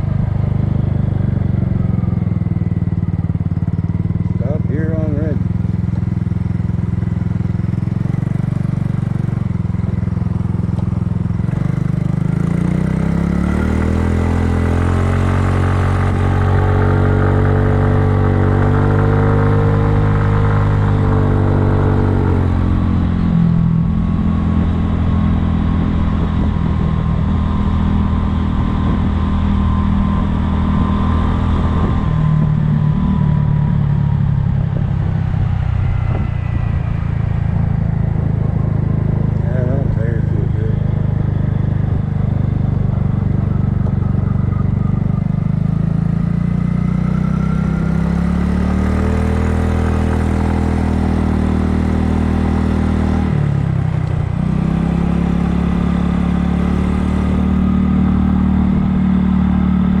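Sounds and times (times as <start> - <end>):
scooter engine running: 0.0 - 60.0.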